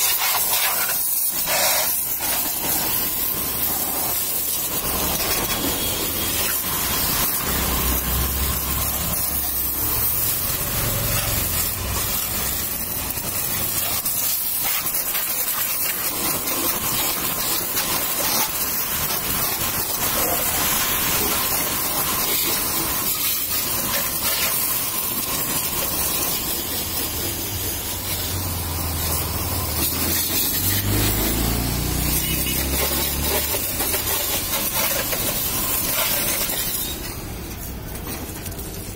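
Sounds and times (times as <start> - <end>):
pressure washer spray hissing: 0.0 - 38.9.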